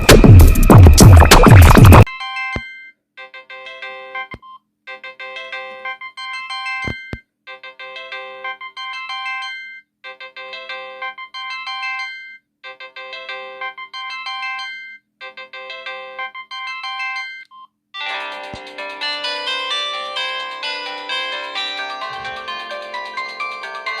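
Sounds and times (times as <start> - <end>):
phone ringtone melody: 2.0 - 24.0
busier phone ringtone: 2.1 - 24.0.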